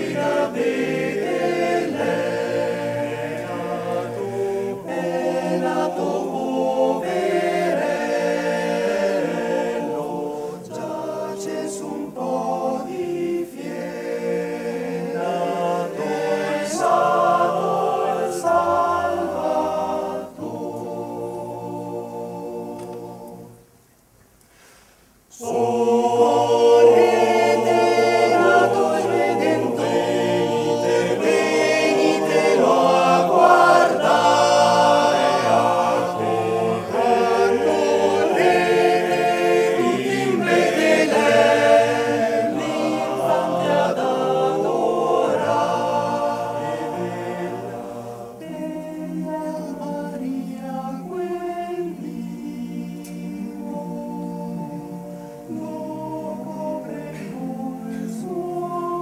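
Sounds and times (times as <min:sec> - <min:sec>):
male choir singing a cappella: 0:00.0 - 0:23.6, 0:25.3 - 0:59.0.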